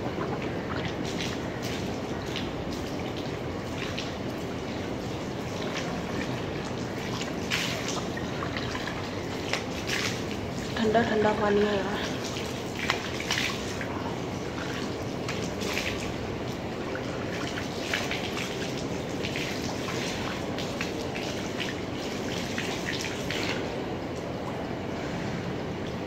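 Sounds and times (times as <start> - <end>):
water running and splashing: 0.0 - 24.6.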